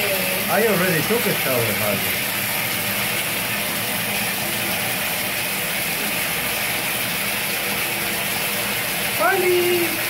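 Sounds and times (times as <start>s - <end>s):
shower water running into bathtub: 0.0s - 10.0s.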